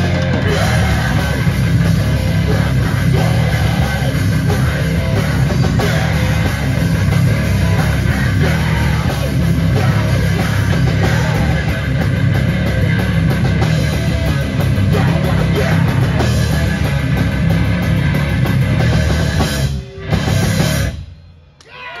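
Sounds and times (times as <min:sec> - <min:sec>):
metal band playing loudly: 0:00.0 - 0:21.2
drum kit: 0:00.0 - 0:21.3
distorted electric guitars: 0:00.0 - 0:21.5.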